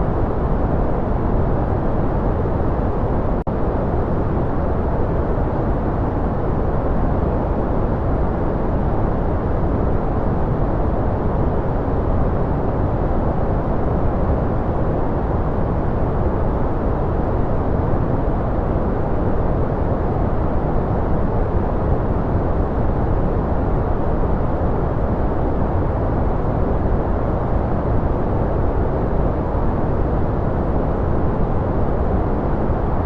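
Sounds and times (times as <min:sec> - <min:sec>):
deep rumbling white noise: 0:00.0 - 0:33.0.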